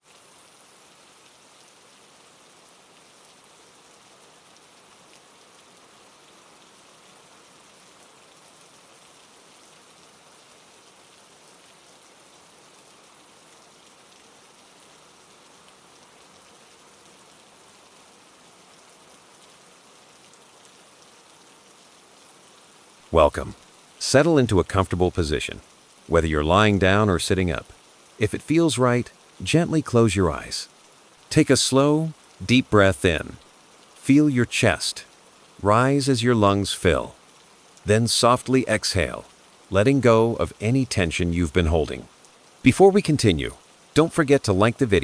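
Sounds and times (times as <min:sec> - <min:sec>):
soft rain pattering: 0:00.0 - 0:45.0.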